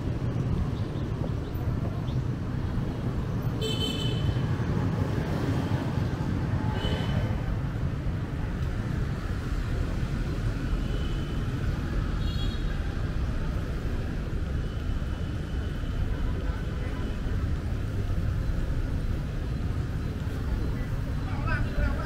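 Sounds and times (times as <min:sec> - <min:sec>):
city street traffic rumbling: 0:00.0 - 0:22.0.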